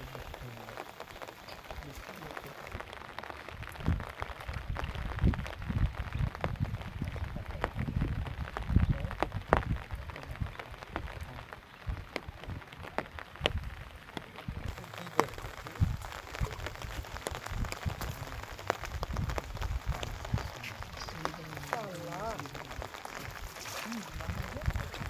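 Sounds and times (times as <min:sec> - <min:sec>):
water splashing and dripping: 0:00.0 - 0:25.0.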